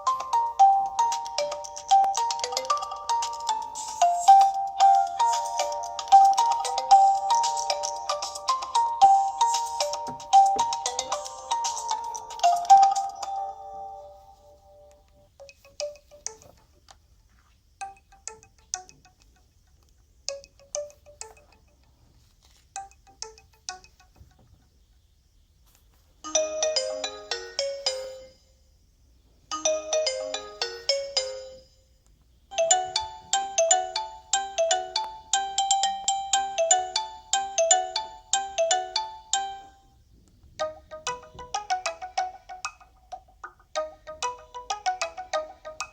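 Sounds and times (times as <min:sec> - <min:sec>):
phone ringtone melodies: 0:00.0 - 0:16.7, 0:17.8 - 0:19.5, 0:20.3 - 0:21.8, 0:22.8 - 0:24.2, 0:26.3 - 0:28.5, 0:29.5 - 0:31.8, 0:32.5 - 0:39.9, 0:40.6 - 0:45.9.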